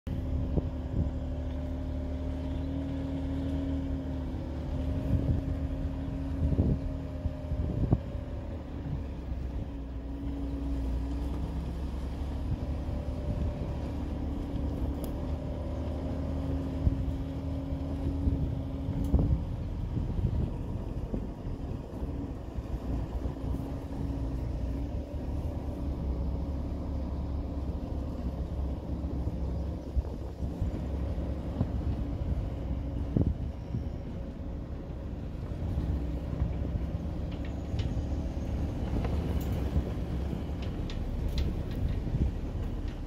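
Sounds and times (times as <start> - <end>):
low ground rumble: 0.1 - 43.0
vehicle motor humming: 0.1 - 43.0.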